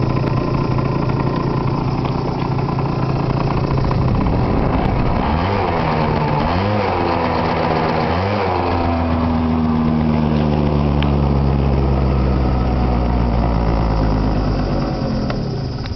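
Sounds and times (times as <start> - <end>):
scooter engine revving and idling: 0.0 - 15.9.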